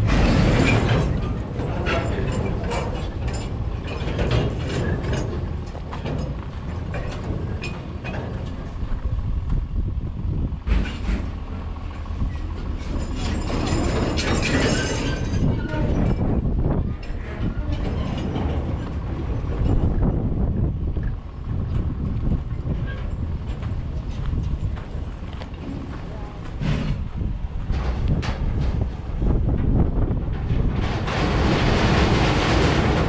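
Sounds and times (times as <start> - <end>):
metallic clanks and rattles: 0.0 - 9.6, 10.4 - 33.0
machinery low rumble: 0.0 - 33.0.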